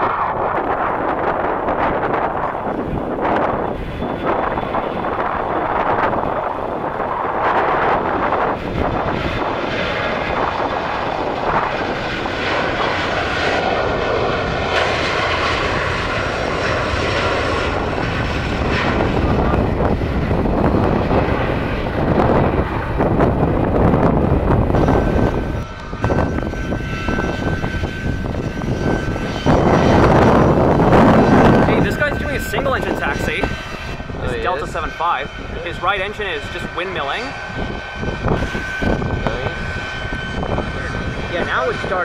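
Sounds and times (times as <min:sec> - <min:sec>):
jet engines rushing: 0:00.0 - 0:42.0
thin engine whine: 0:00.0 - 0:42.0.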